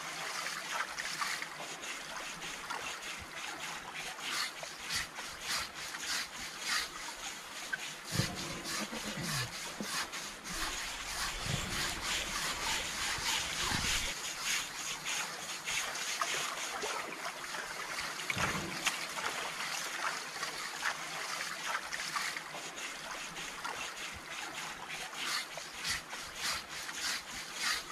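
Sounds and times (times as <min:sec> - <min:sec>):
water splashing and trickling: 0:00.0 - 0:27.9.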